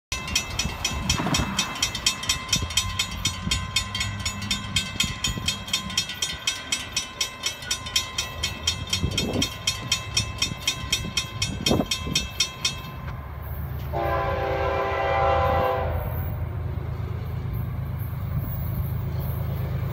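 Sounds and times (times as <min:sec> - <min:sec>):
crossing bell ringing: 0:00.1 - 0:16.5.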